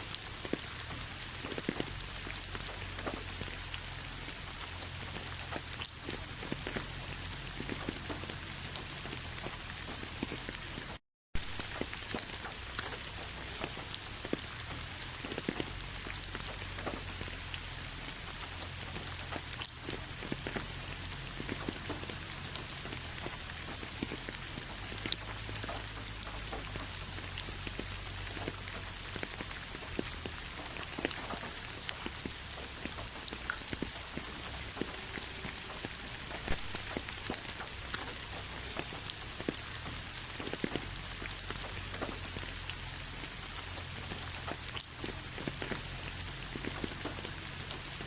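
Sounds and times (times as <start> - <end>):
raindrops ticking: 0.0 - 48.0
steady rain falling: 0.0 - 48.0.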